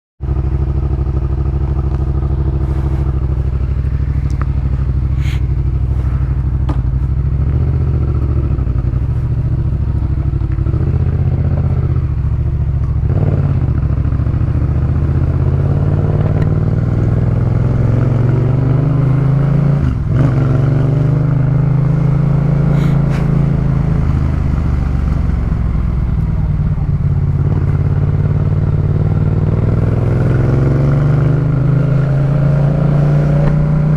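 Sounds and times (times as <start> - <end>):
motorcycle engine running loud: 0.2 - 33.9.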